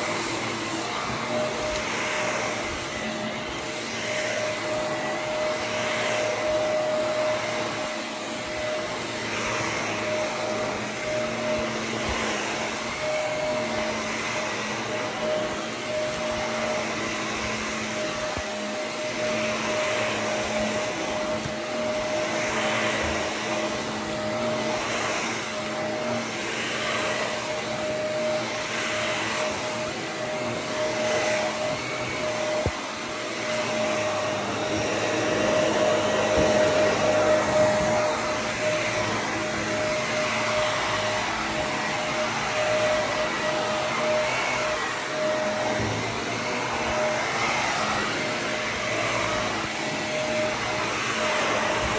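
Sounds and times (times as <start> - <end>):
vacuum cleaner running on carpet: 0.0 - 51.9.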